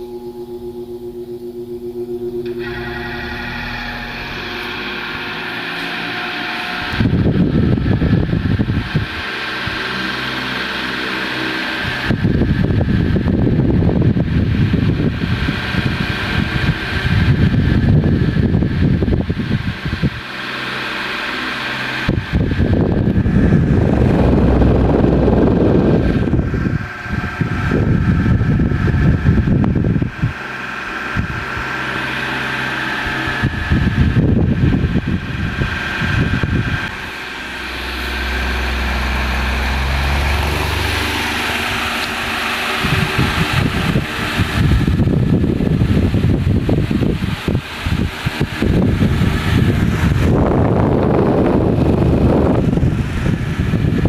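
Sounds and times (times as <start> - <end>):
fan airflow wind noise: 0.0 - 54.0
fan motor hum: 0.0 - 54.0.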